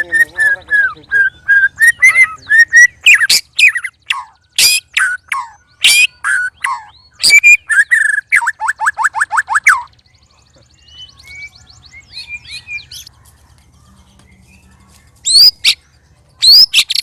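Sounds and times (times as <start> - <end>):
songbird singing whistles: 0.0 - 13.1, 13.8 - 17.0.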